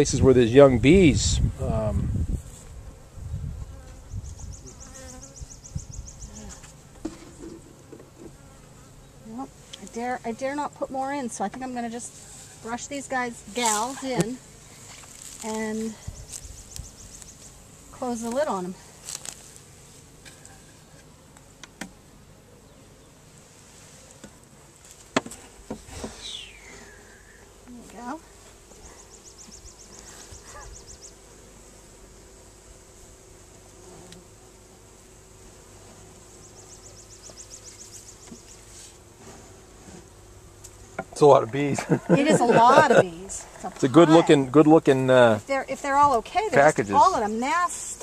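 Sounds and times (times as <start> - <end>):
honey bees buzzing: 0.0 - 48.0.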